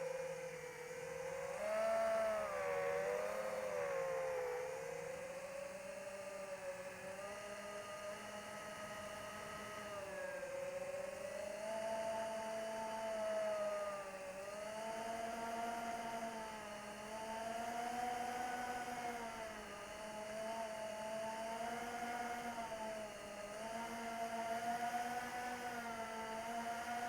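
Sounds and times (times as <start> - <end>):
electric motor and propeller whine: 0.0 - 27.0.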